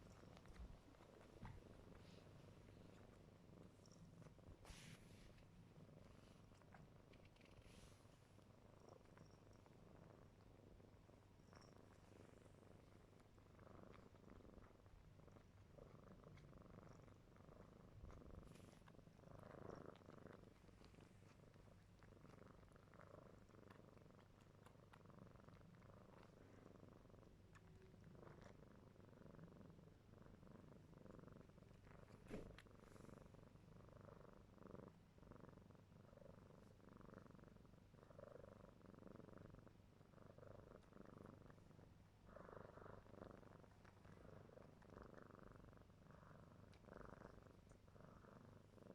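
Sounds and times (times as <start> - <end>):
kitten purring: 0.0 - 48.9.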